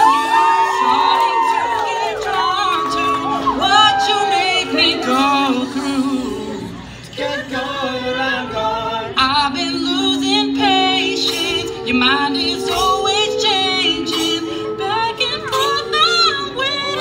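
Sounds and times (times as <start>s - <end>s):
men singing a cappella: 0.8s - 17.0s.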